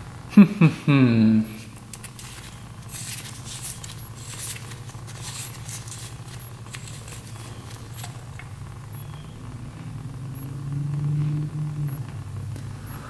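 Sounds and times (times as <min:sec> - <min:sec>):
steady low hum: 0:00.0 - 0:13.0
crackly patters: 0:01.6 - 0:13.0.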